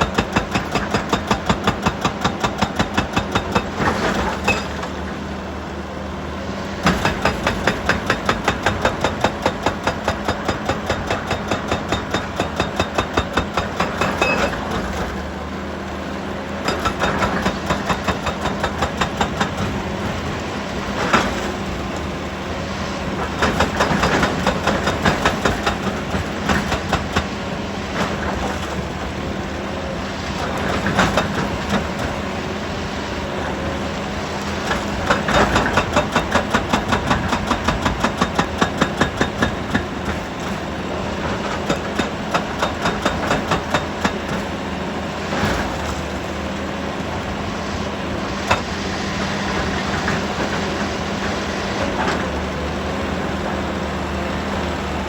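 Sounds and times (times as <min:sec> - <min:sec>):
heavy machinery engine drone: 0:00.0 - 0:55.0.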